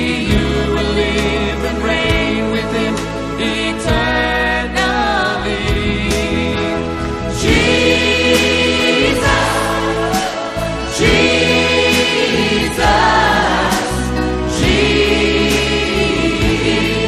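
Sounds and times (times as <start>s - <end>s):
choir singing gospel song: 0.0s - 17.0s
instrumental backing: 0.0s - 17.0s.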